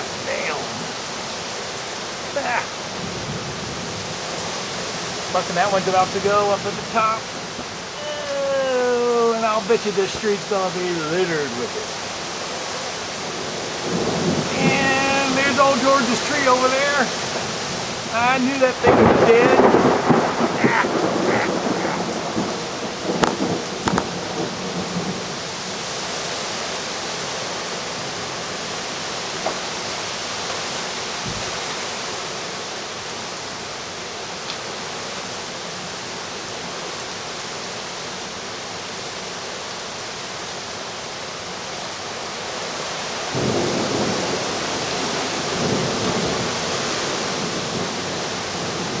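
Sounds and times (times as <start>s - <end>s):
driving rain: 0.0s - 49.0s.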